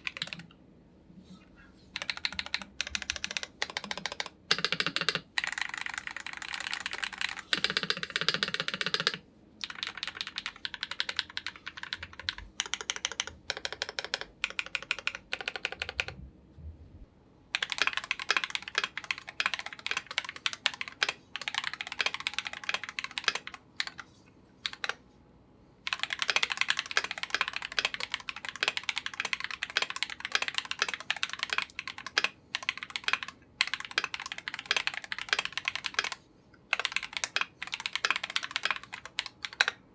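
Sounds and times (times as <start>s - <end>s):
fast mechanical keyboard typing: 0.0s - 0.6s, 2.0s - 16.2s, 17.5s - 25.0s, 25.8s - 39.9s.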